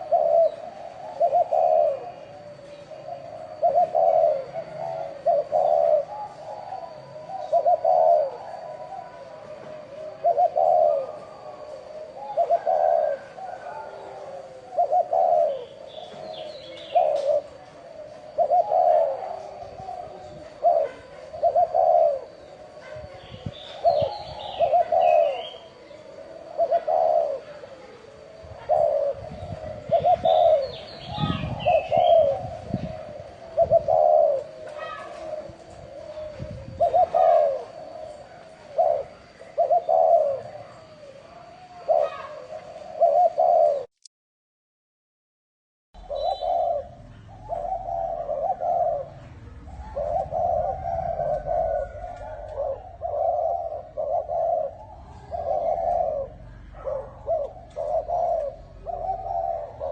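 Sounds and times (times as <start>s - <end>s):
dove cooing: 0.0s - 43.9s, 46.0s - 59.9s.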